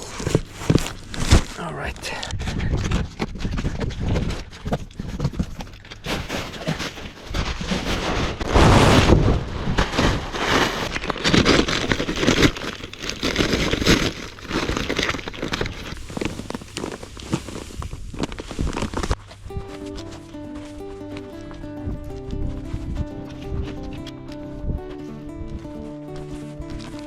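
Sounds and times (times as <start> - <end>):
rustling and crackling: 0.0 - 27.0.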